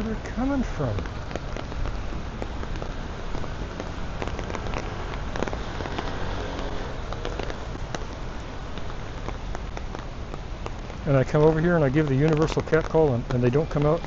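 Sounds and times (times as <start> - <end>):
raindrops ticking close by: 0.0 - 14.0
steady rain falling: 0.0 - 14.0.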